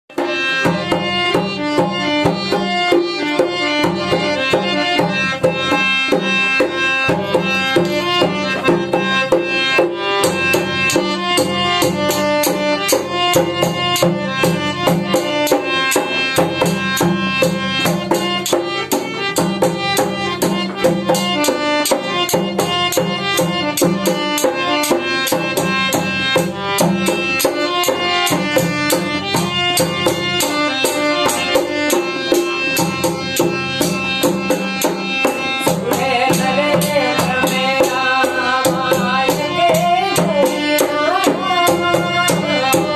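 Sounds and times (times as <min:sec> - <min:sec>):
fast hand drumming: 0:00.1 - 0:42.9
sustained melody instrument: 0:00.1 - 0:42.9.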